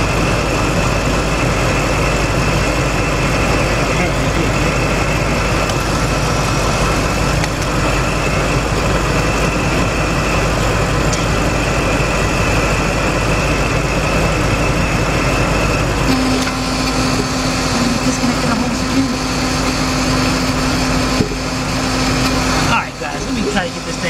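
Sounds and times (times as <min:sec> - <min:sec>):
faint high whine: 0:00.0 - 0:24.0
misfiring car engine idling: 0:00.0 - 0:24.0
steady low hum: 0:00.0 - 0:24.0.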